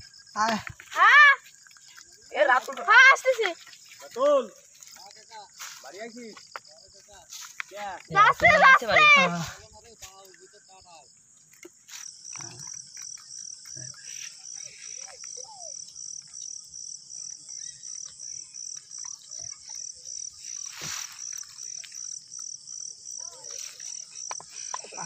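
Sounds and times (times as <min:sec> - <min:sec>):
night insects chirping: 0:00.0 - 0:25.0.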